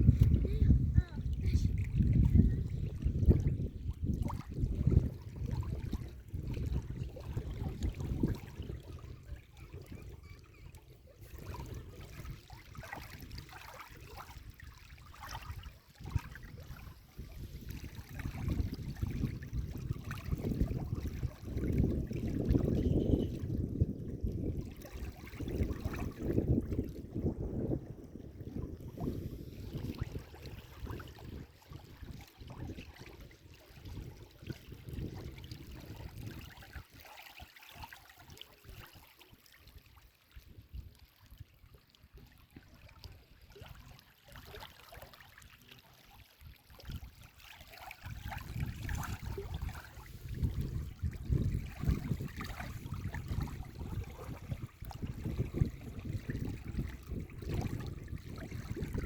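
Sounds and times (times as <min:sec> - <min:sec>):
stream flowing and trickling: 0:00.0 - 0:59.0.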